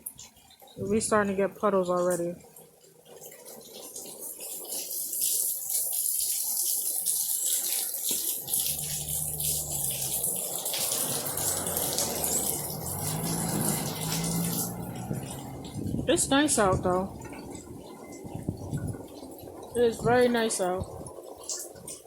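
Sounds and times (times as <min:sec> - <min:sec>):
rain splashing on wet ground: 0:00.0 - 0:22.0.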